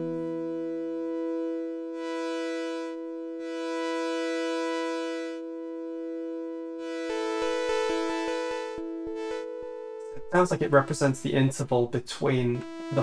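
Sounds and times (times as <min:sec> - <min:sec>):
synthesizer held note: 0:00.0 - 0:13.0.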